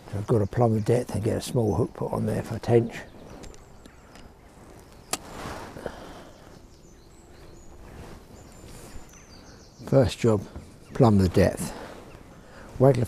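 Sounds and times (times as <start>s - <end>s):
faint high bird chirps: 0.0s - 13.0s
light rustle: 2.3s - 13.0s.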